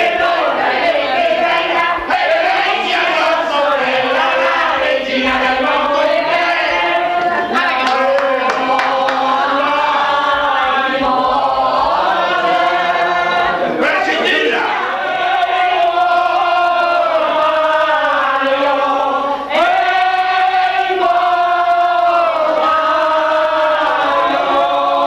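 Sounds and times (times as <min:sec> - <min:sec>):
group singing long notes: 0:00.0 - 0:25.0.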